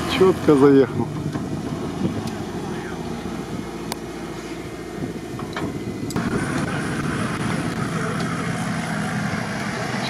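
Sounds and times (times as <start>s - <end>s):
off-road vehicle engines under load: 0.0s - 10.0s.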